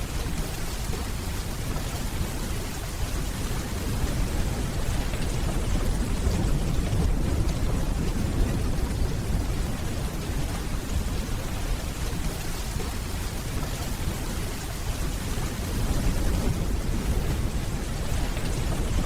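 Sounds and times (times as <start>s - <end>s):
distant thunder rumble: 0.0s - 19.0s
steady rainfall: 0.0s - 19.0s.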